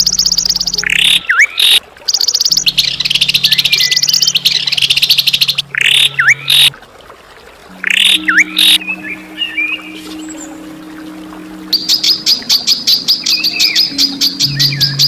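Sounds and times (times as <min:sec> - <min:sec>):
songbird rattling trills: 0:00.0 - 0:06.7, 0:07.7 - 0:15.0.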